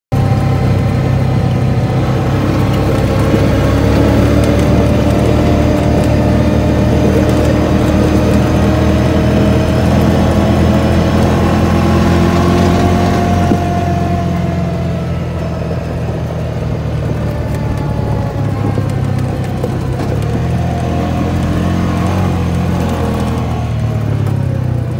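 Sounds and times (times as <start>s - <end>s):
off-road vehicle engine droning: 0.1s - 24.9s.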